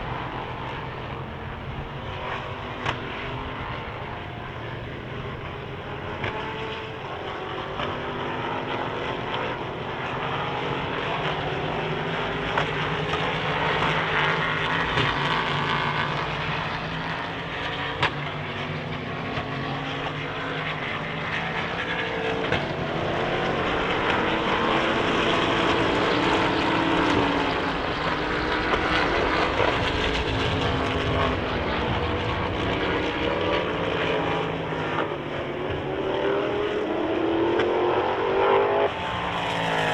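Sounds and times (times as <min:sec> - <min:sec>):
race car engines passing: 0:00.0 - 0:39.9.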